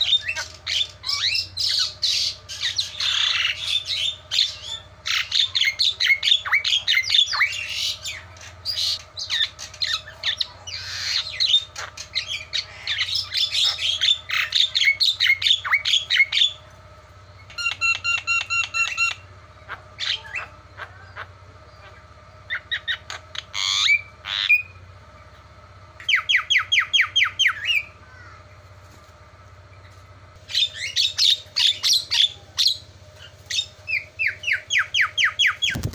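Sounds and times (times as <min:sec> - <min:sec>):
bird squawking and chattering: 0:00.0 - 0:16.7, 0:17.4 - 0:24.9, 0:26.0 - 0:28.4, 0:29.8 - 0:35.9
faint steady hum: 0:00.0 - 0:35.9.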